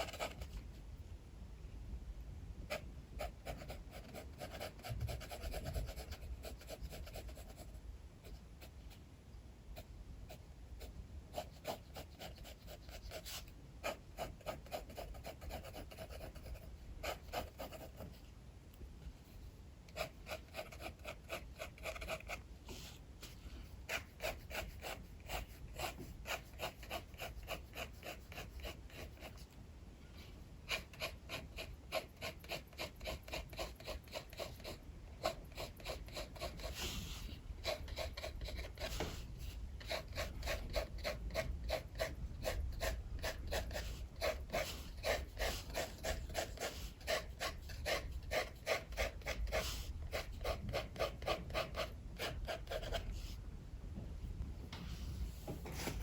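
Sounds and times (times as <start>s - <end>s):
pencil scratching on paper: 0.0s - 0.6s, 2.7s - 9.0s, 9.7s - 18.3s, 19.2s - 29.6s, 30.6s - 53.4s.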